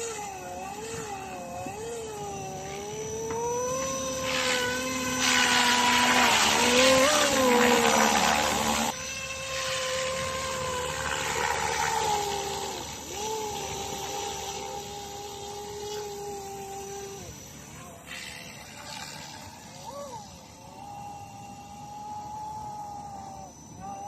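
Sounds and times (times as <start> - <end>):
rc helicopter motor whine: 0.0 - 24.0.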